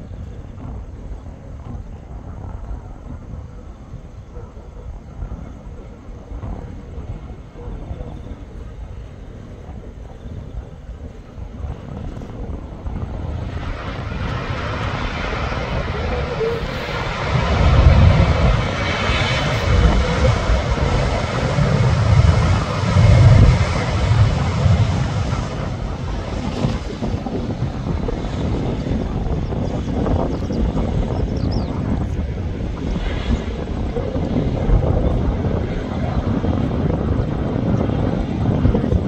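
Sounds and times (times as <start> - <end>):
jet engines rushing: 0.0 - 39.0.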